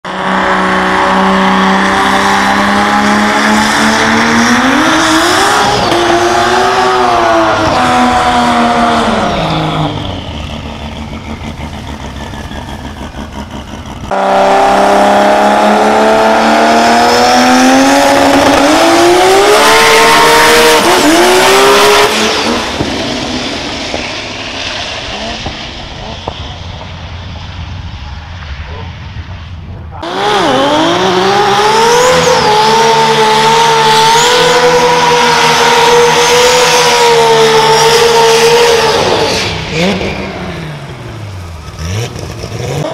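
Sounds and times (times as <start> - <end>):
car engine revving: 0.0 - 42.9
race car launching: 0.1 - 42.9.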